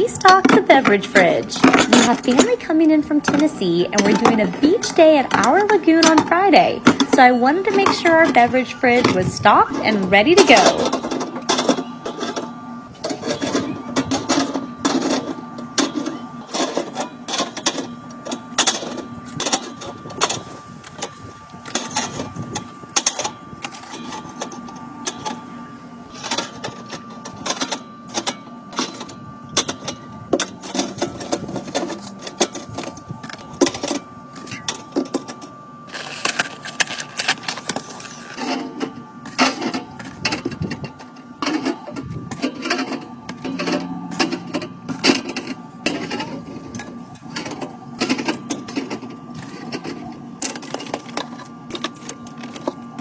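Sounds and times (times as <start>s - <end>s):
faint hum and tone: 0.0s - 53.0s.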